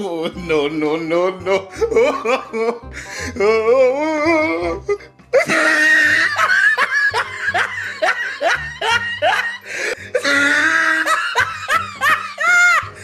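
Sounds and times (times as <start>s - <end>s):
backing music track: 0.0s - 13.0s.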